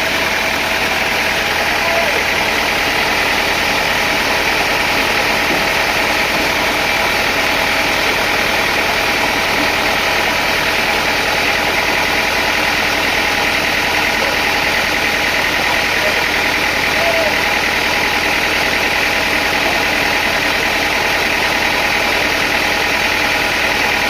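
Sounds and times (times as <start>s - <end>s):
sawmill machinery droning: 0.0s - 24.0s.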